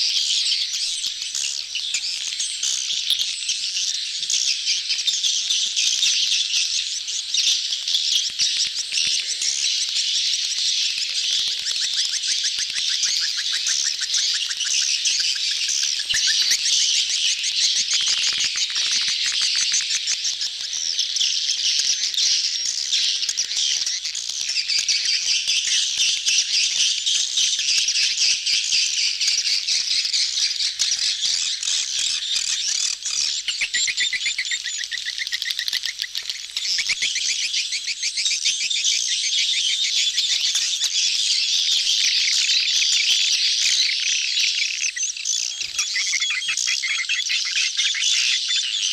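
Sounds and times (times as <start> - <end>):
flock of swiftlets chirping: 0.0 - 48.9.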